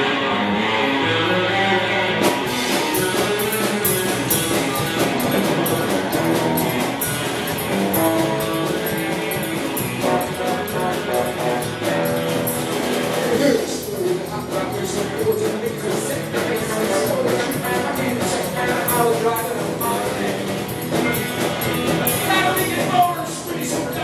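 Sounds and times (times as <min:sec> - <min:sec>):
bass guitar: 0:00.0 - 0:24.0
electric guitar: 0:00.0 - 0:24.0
drum kit and cymbals: 0:02.1 - 0:24.0.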